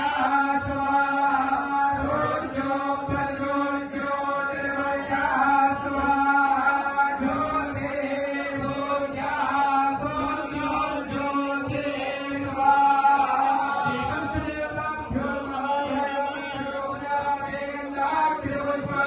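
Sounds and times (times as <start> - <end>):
group chanting in unison: 0.0 - 19.0.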